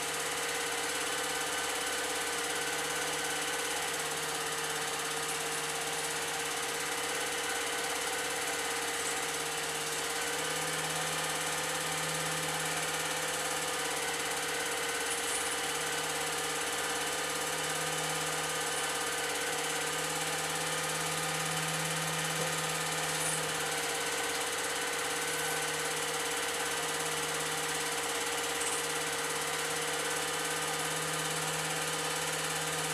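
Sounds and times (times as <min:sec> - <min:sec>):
projector motor hum: 0:00.0 - 0:32.9.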